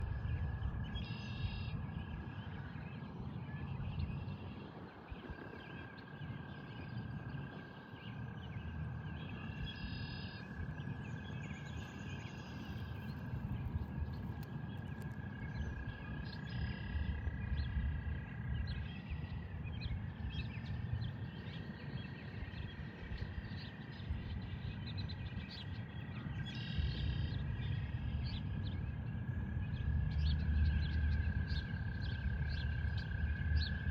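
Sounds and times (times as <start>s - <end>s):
low outdoor rumble: 0.0s - 33.9s.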